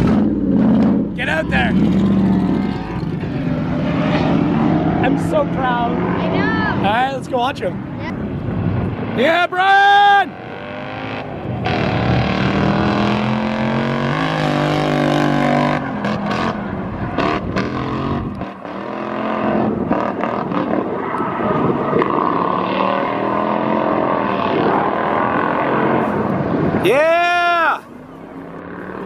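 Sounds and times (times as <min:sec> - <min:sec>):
car engine revving hard: 0:00.0 - 0:07.1, 0:10.2 - 0:26.9.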